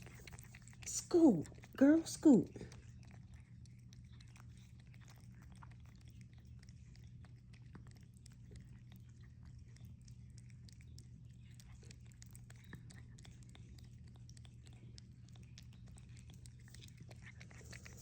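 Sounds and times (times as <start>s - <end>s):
cats licking and chewing: 0.0s - 18.0s
low steady hum: 0.0s - 18.0s.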